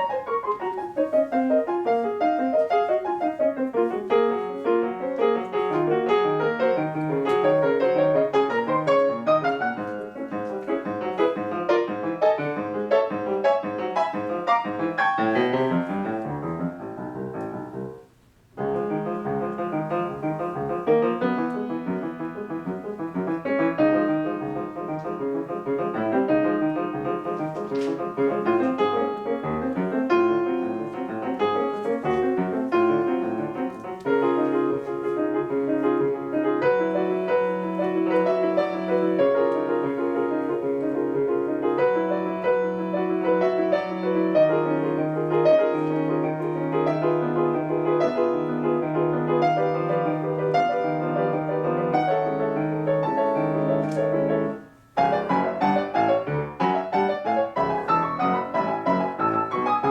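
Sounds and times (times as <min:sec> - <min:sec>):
solo piano classical piece: 0:00.0 - 0:59.9.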